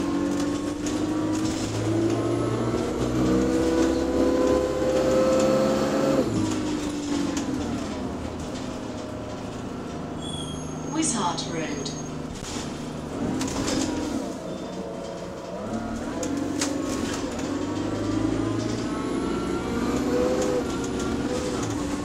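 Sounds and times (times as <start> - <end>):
bus engine moaning: 0.0 - 22.0.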